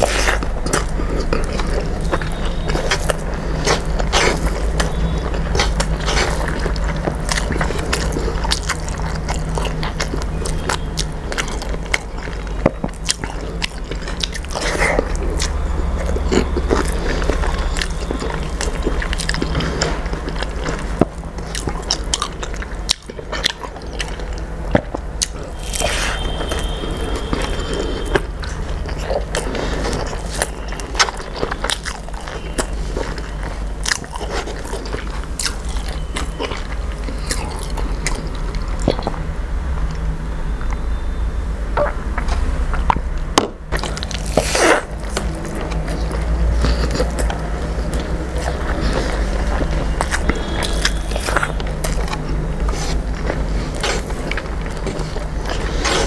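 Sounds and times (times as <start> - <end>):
person chewing food: 0.0 - 41.0, 41.8 - 56.0
steady low hum: 0.0 - 56.0.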